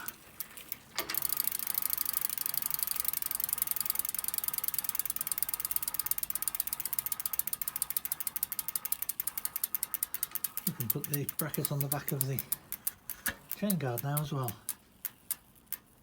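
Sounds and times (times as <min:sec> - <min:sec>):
bicycle hub ticking: 0:00.0 - 0:16.0.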